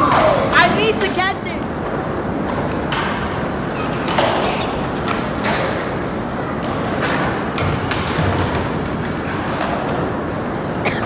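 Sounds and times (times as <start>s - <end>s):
skateboards hitting concrete: 0.0s - 1.2s, 2.4s - 10.2s.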